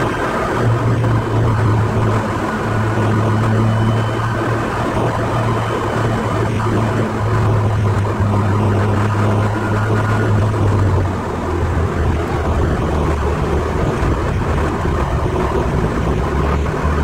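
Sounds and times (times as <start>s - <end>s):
car engine from inside cabin: 0.0s - 17.0s
road and wind noise: 0.0s - 17.0s.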